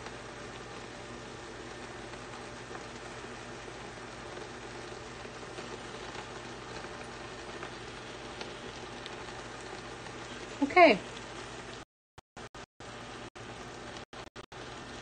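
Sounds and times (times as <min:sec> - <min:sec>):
pan sizzling softly: 0:00.0 - 0:11.8, 0:12.8 - 0:15.0.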